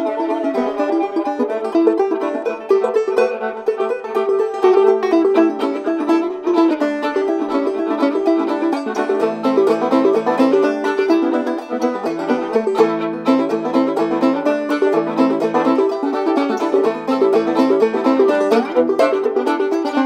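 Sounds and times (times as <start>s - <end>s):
banjo plucked tune: 0.0s - 20.0s.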